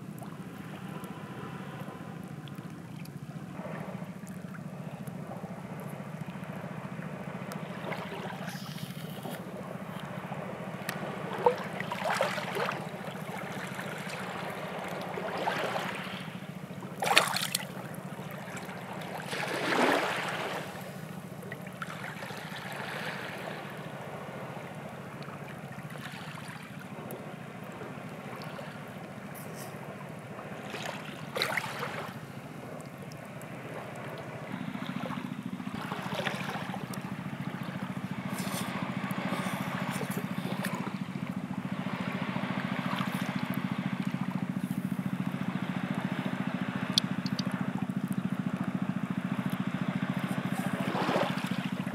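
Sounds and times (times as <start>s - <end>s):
low hum: 0.0s - 51.9s
water ambience: 0.0s - 51.9s.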